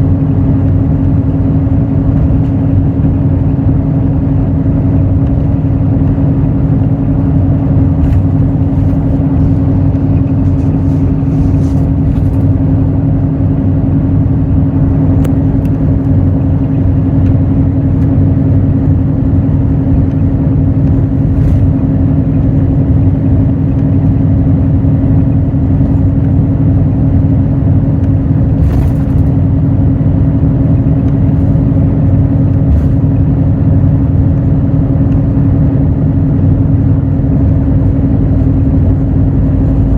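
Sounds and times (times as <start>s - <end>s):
bus diesel engine drone: 0.0s - 39.9s
low road rumble: 0.0s - 39.9s.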